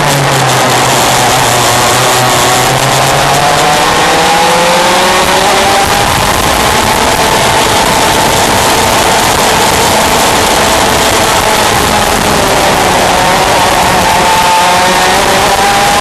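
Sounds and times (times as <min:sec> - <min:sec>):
kart engine at high revs: 0:00.0 - 0:16.0.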